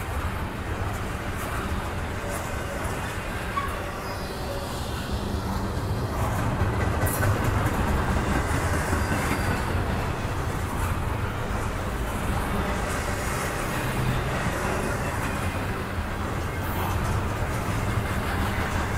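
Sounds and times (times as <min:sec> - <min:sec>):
freight train rolling past: 0:00.0 - 0:18.9.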